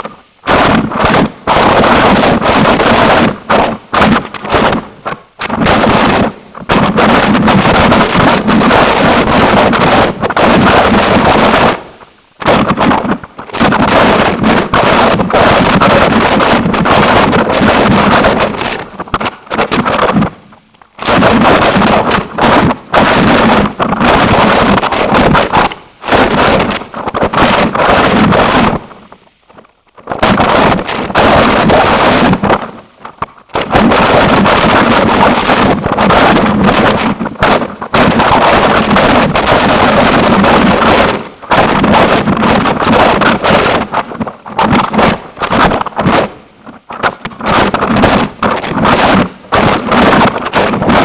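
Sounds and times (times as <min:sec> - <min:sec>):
harsh distorted noise music: 0:00.0 - 0:46.4, 0:47.0 - 0:51.0.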